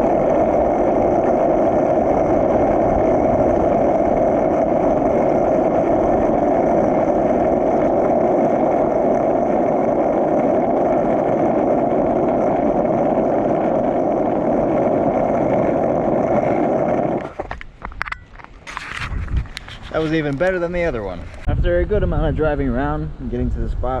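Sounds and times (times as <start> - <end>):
skateboard wheels rolling on asphalt: 0.0 - 24.0.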